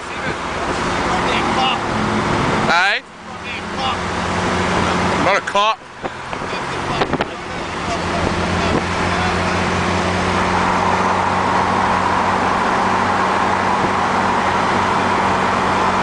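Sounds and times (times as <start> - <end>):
car engine droning: 0.0 - 16.0
road and wind noise: 0.0 - 16.0.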